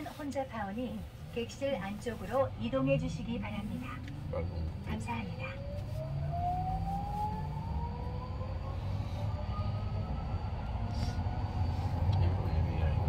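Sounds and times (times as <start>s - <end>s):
train running gear rumble: 0.0s - 13.0s
electric train motor whine: 2.5s - 13.0s.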